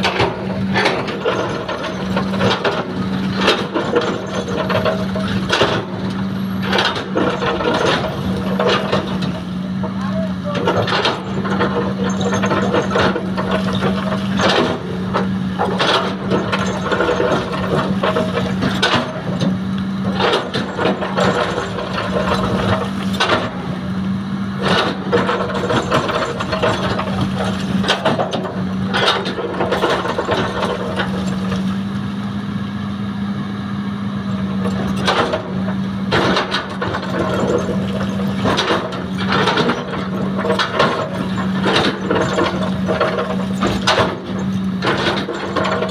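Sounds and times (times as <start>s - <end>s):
metallic clanks and knocks: 0.0s - 23.7s, 24.6s - 31.8s, 34.5s - 45.9s
excavator engine hum: 0.0s - 45.9s.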